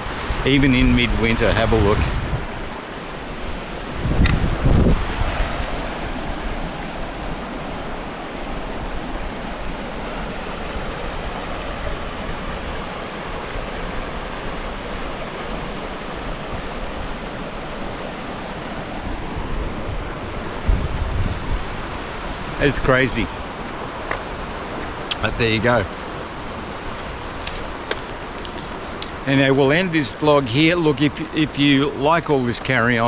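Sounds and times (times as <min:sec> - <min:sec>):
wind buffeting microphone: 0:00.0 - 0:29.9
floodwater rushing: 0:00.0 - 0:33.0.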